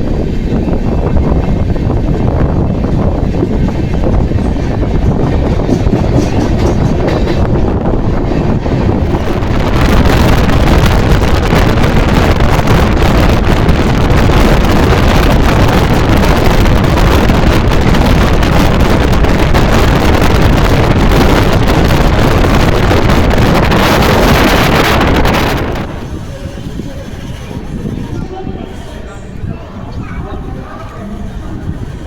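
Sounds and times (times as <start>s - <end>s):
train running at speed: 0.0s - 32.0s
wind buffeting microphone: 0.0s - 32.0s.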